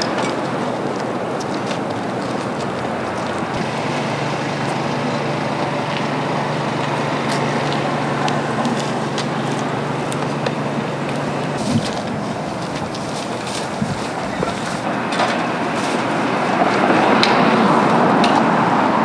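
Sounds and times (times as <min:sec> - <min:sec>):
continuous rushing wash: 0:00.0 - 0:19.0
low engine-like hum: 0:00.0 - 0:19.0.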